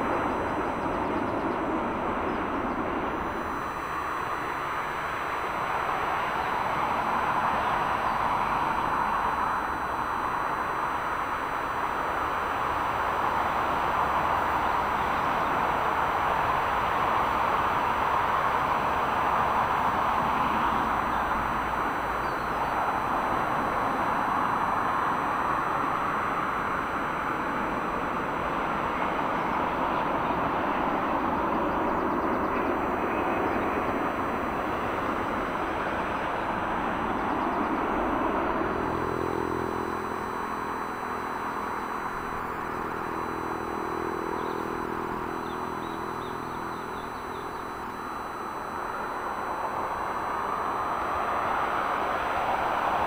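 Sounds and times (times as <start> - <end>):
jet airliner engines roaring: 0.0 - 53.0
low engine hum: 0.0 - 53.0.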